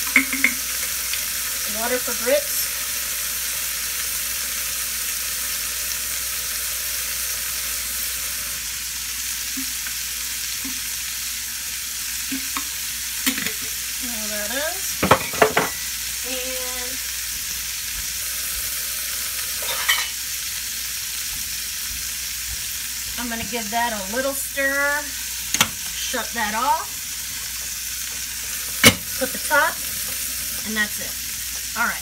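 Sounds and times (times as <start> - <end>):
vegetables sizzling in oil: 0.0 - 32.0
water boiling in a pot: 0.0 - 32.0.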